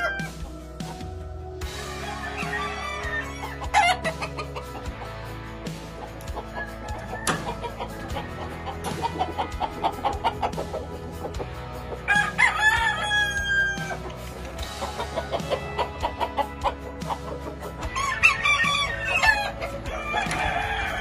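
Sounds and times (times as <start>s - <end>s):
roosters crowing: 0.0s - 0.8s, 1.6s - 21.0s
background music: 0.0s - 21.0s.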